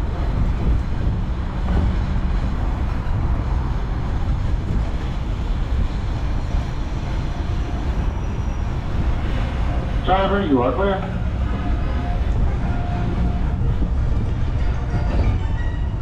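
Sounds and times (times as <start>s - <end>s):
tram rumbling: 0.0s - 16.0s.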